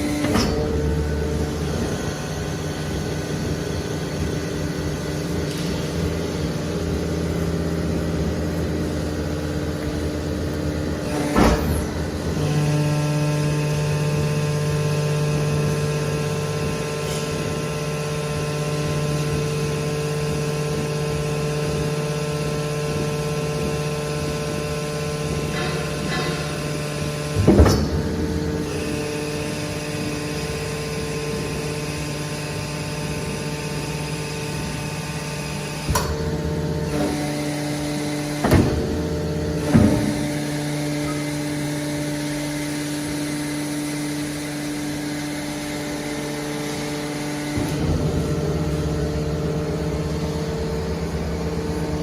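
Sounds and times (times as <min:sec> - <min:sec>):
hydraulic power unit humming: 0:00.0 - 0:52.0.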